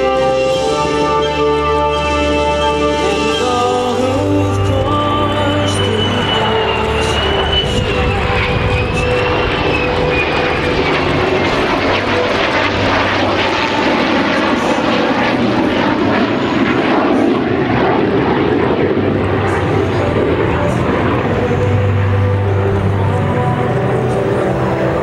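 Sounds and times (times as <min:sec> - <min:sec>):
jet and propeller aircraft flying past: 0:00.0 - 0:25.0.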